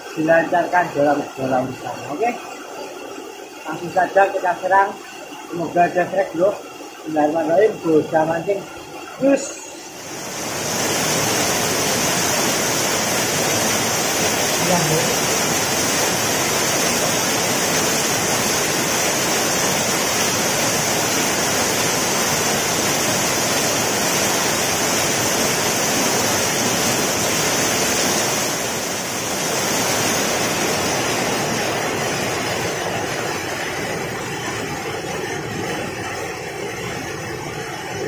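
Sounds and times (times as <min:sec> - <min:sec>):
waterfall rushing into pool: 0:00.0 - 0:38.0.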